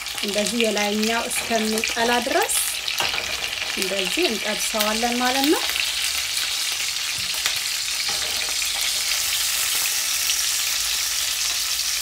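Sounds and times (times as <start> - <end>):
sausages sizzling in oil: 0.0 - 12.0.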